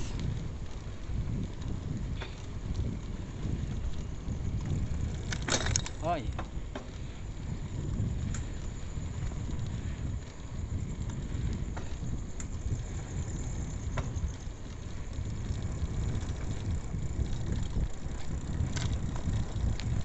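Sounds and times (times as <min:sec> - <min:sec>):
bicycle clicks: 0:00.0 - 0:20.0
road rumble: 0:00.0 - 0:20.0
wind buffeting microphone: 0:00.0 - 0:20.0.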